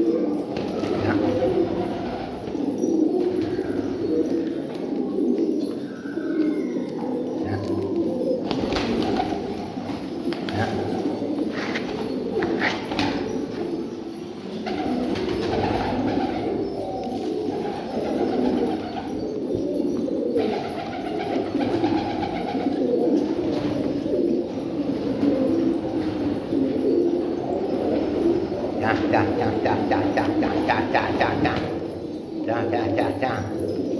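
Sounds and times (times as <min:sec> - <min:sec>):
pigeons cooing: 0:00.0 - 0:33.9.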